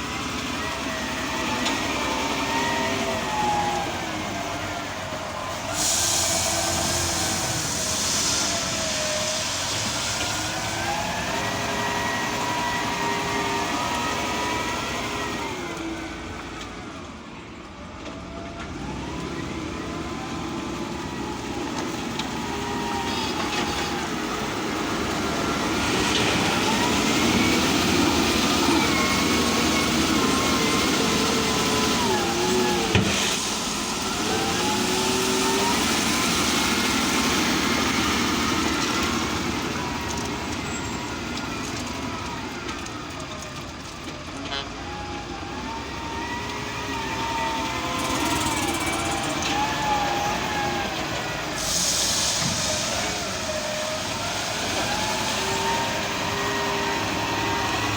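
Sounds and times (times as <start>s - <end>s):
bulldozer engine running: 0.0s - 57.9s.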